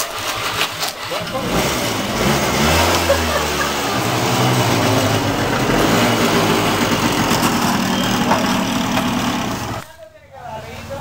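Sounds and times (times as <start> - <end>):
small scooter engine running: 0.1 - 9.8.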